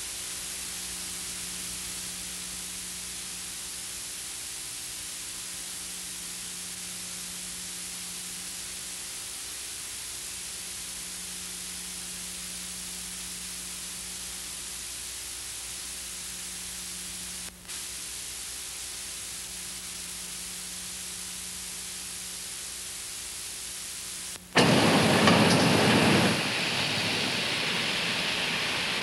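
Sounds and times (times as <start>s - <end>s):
faint electrical hum: 0.0s - 29.0s
recording hiss: 0.0s - 29.0s.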